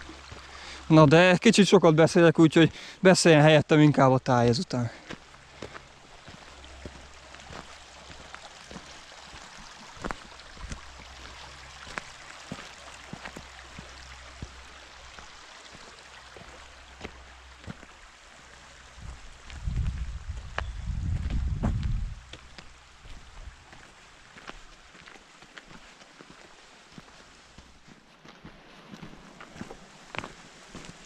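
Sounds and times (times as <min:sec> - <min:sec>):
creek running: 0:00.0 - 0:31.0.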